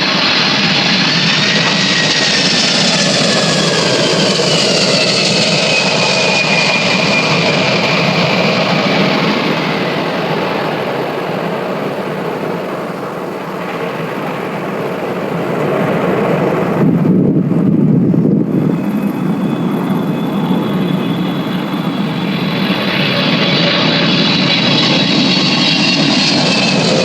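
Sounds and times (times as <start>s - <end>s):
high-pitched engine whine: 0.0s - 27.0s
jet engines roaring: 0.0s - 27.0s.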